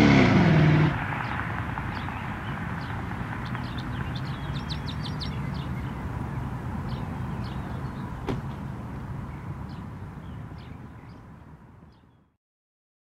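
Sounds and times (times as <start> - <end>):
distant engine rumble: 0.0 - 11.8
small birds chirping: 1.2 - 12.3.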